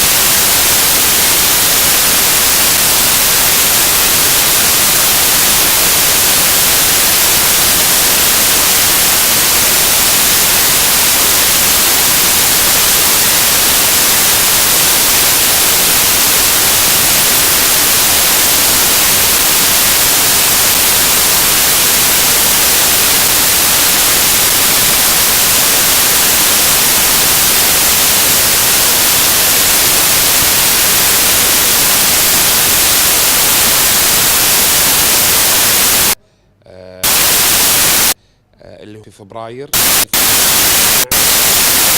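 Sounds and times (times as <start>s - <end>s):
static hiss: 0.0s - 36.2s, 37.0s - 38.2s, 39.7s - 41.9s.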